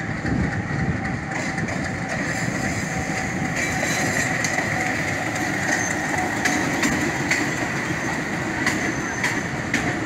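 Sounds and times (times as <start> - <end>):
diesel locomotive engine running: 0.0 - 10.0
train wheels rolling over rails: 0.0 - 10.0.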